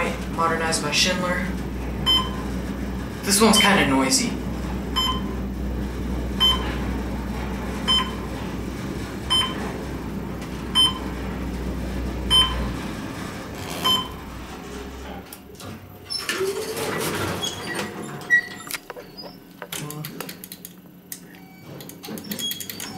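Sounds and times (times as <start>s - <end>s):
elevator car humming: 0.0s - 19.8s
elevator doors sliding open: 0.0s - 22.9s.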